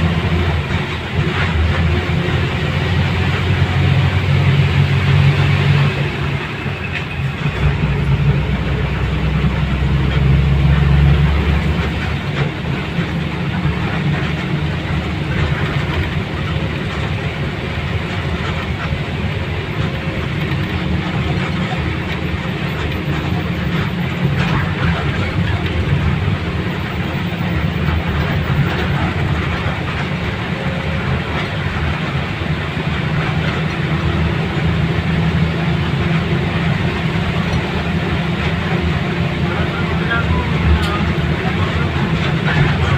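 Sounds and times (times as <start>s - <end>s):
moving vehicle rumble: 0.0s - 42.9s.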